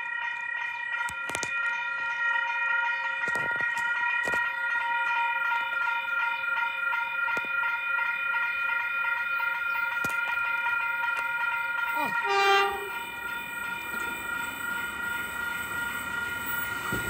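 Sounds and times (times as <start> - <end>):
level crossing warning alarm: 0.0 - 17.0.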